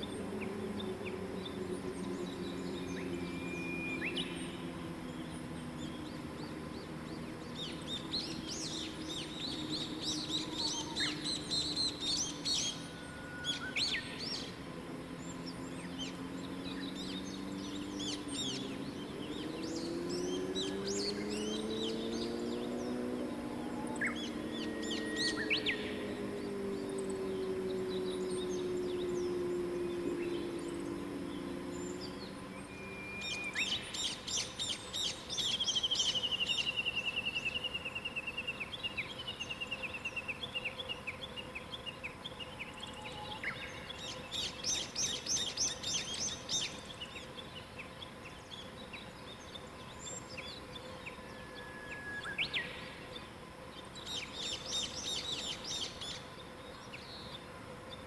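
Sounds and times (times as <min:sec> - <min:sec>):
faint steady hum: 0:00.0 - 0:58.0
songbirds trilling: 0:00.0 - 0:58.0.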